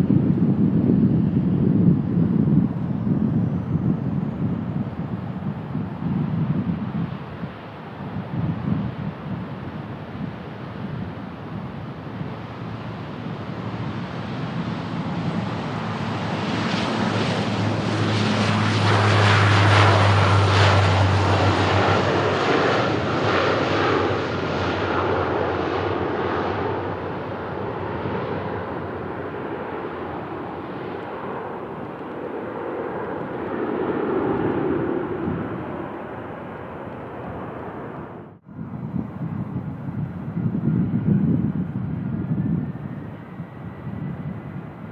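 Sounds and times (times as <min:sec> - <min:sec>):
turboprop plane passing by: 0:00.0 - 0:44.9.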